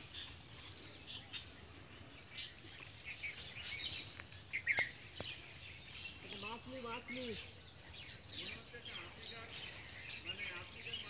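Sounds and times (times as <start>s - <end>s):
birds chirping and calling: 0.0s - 11.0s.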